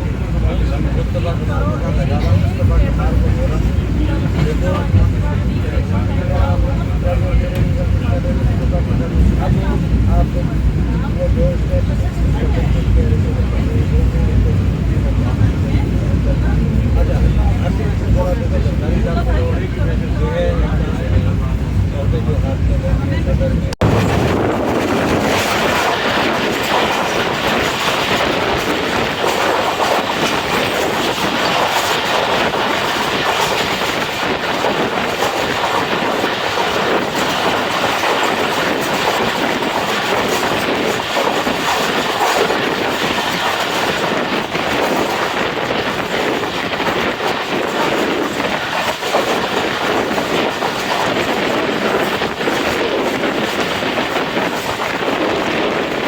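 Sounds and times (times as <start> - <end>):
train rushing rumble: 0.0 - 56.0.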